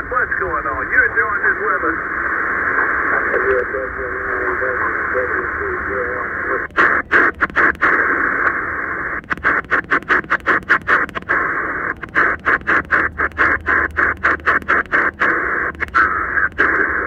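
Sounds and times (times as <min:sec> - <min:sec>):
radio band noise hiss: 0:00.0 - 0:17.0.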